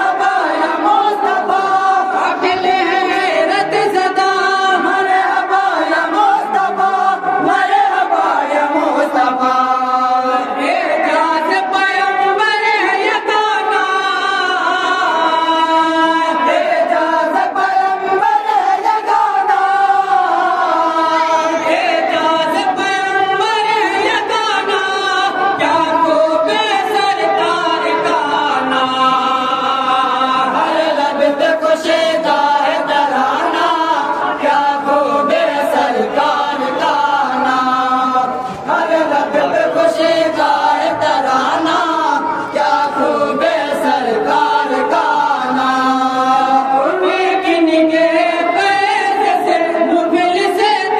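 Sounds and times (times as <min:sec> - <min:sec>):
men chanting in unison: 0:00.0 - 0:50.9.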